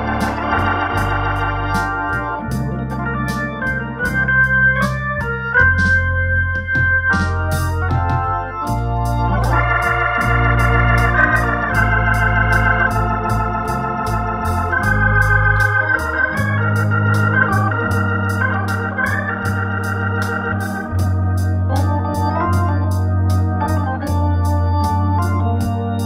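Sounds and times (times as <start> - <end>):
light ticking beat: 0.0 - 26.0
organ playing slow ballad: 0.0 - 26.0.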